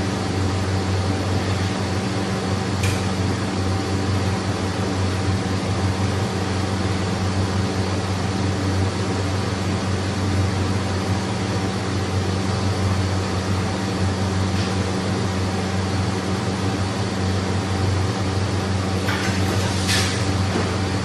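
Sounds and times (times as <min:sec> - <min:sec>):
mechanical hum with hiss: 0:00.0 - 0:21.0.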